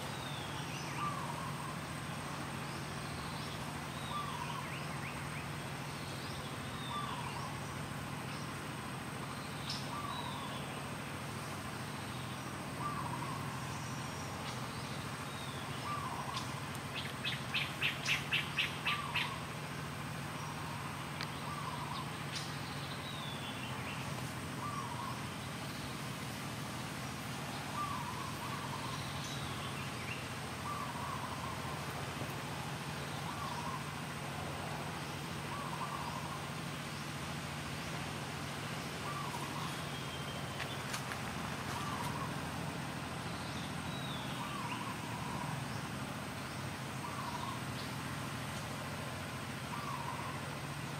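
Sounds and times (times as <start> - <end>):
forest birds calling: 0.0 - 50.9
low background hum: 0.0 - 50.9.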